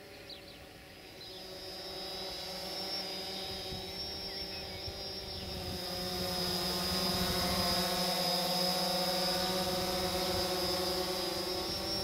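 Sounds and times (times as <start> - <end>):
drone propellers whining: 0.4 - 12.0.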